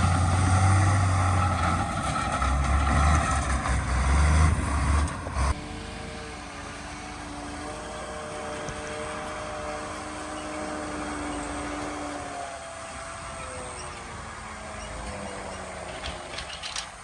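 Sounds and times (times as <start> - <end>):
heavy machinery engine humming: 0.0 - 17.0.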